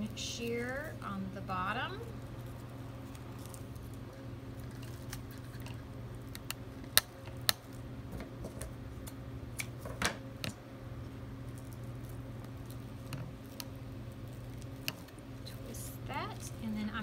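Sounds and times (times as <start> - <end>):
ribbon rustling and crinkling: 0.0 - 8.7, 11.4 - 17.0
steady low hum: 0.0 - 17.0.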